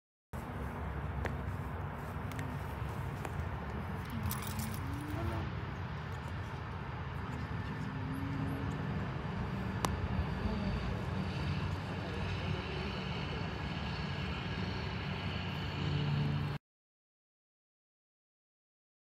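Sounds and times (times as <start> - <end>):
low outdoor rumble: 0.4 - 16.6.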